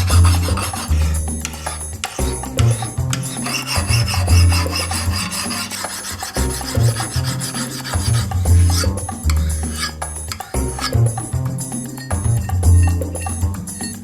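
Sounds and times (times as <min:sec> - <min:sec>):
hand file rasping: 0:00.0 - 0:11.3
background music with bass: 0:00.0 - 0:14.0.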